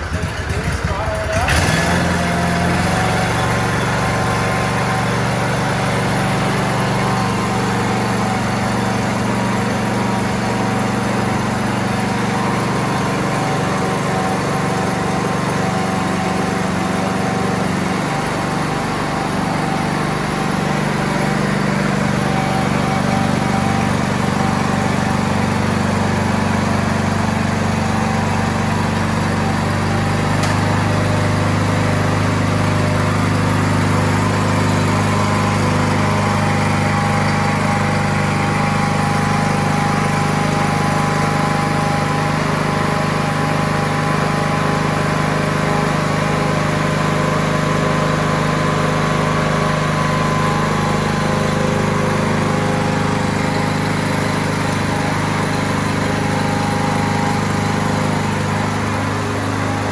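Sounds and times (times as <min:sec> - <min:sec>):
floor grinder engine humming: 0:00.0 - 0:59.9.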